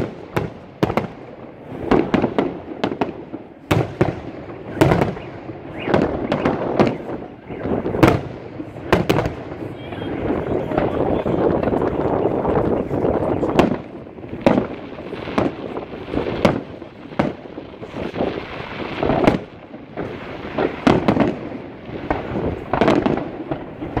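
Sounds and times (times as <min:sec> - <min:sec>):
firework booms: 0:00.0 - 0:24.0
firework crackling: 0:00.0 - 0:24.0.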